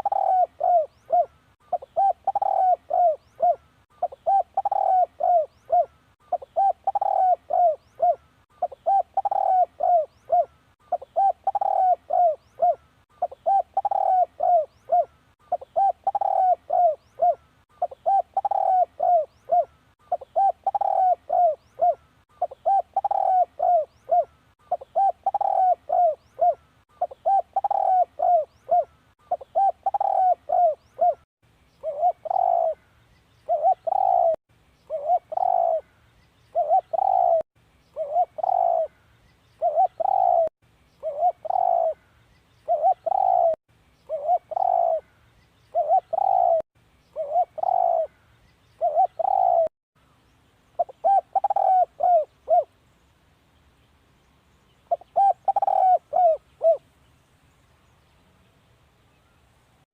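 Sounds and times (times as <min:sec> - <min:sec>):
dove cooing: 0:00.0 - 0:31.2, 0:31.8 - 0:32.8, 0:33.5 - 0:35.9, 0:36.5 - 0:37.4, 0:38.0 - 0:39.0, 0:39.6 - 0:42.0, 0:42.6 - 0:45.1, 0:45.7 - 0:46.6, 0:47.2 - 0:48.2, 0:48.8 - 0:49.7, 0:50.8 - 0:52.7, 0:54.9 - 0:56.8.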